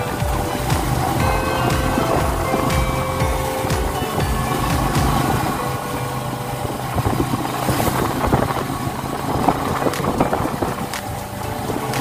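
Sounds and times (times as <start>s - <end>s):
motorcycle engine hum: 0.0s - 12.0s
sidecar body rattling: 0.0s - 12.0s.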